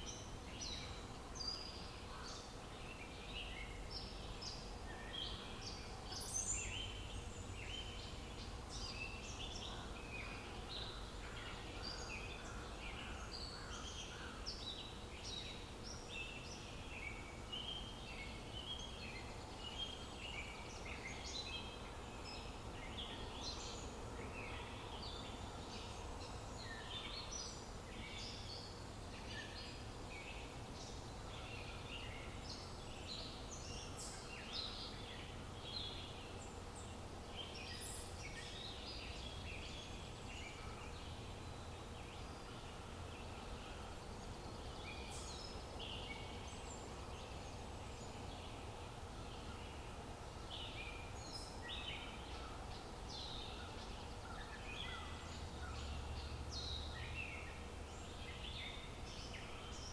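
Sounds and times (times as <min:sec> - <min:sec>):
low outdoor hum: 0:00.0 - 0:59.9.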